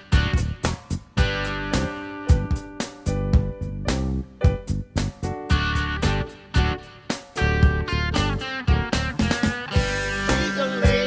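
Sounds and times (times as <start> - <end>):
instrumental country music: 0.0 - 11.0.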